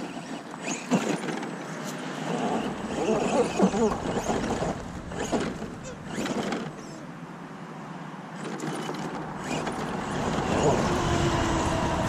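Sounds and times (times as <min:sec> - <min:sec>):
toy truck motor whirring: 0:00.0 - 0:07.0, 0:08.4 - 0:12.0.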